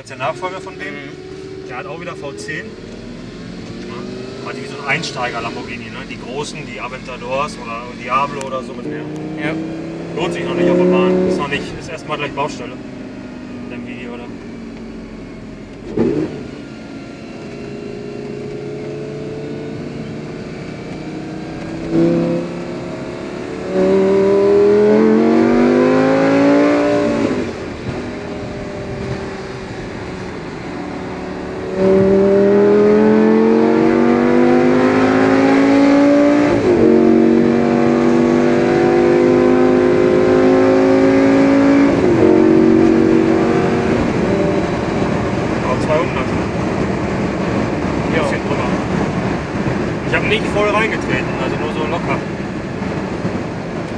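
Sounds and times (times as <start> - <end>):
sports car engine accelerating: 0.0 - 53.9.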